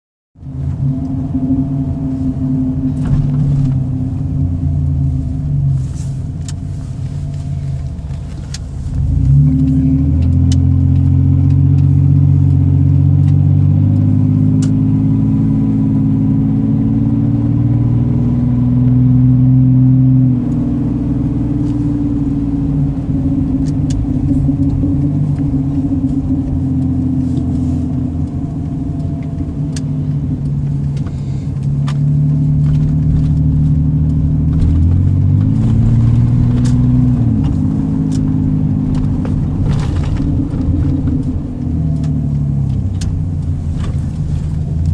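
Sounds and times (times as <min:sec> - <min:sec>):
truck engine revving through exhaust: 0:00.4 - 0:44.9.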